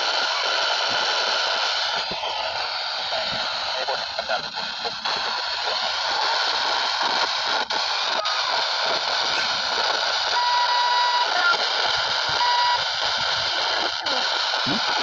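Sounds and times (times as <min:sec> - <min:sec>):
radio static hiss: 0:00.0 - 0:15.0
radio whistle tone: 0:00.0 - 0:15.0.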